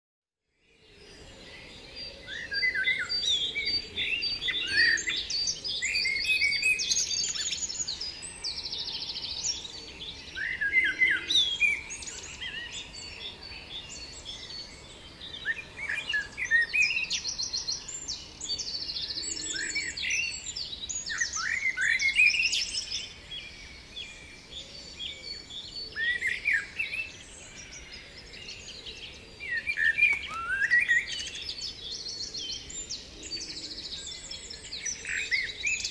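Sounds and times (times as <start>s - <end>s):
songbirds singing: 0.4s - 35.9s.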